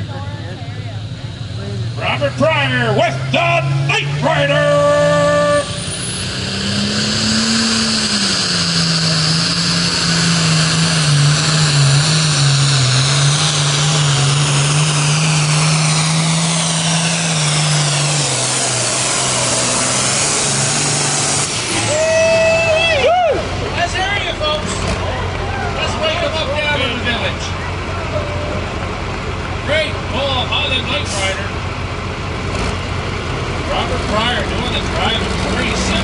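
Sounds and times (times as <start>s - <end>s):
diesel engine running hard: 0.0s - 36.0s.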